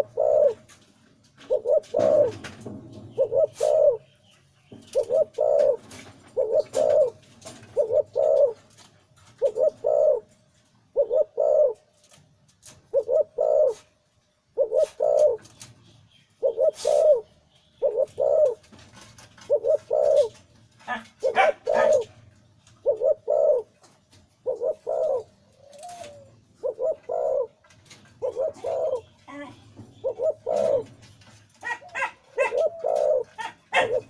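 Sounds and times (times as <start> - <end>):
dove cooing: 0.0 - 0.8, 1.4 - 4.2, 4.8 - 15.7, 16.4 - 23.8, 24.4 - 34.0.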